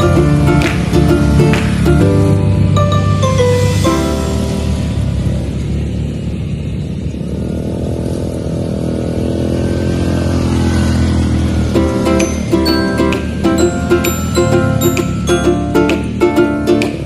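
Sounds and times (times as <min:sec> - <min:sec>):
atv engine speeding up: 0:00.0 - 0:17.0.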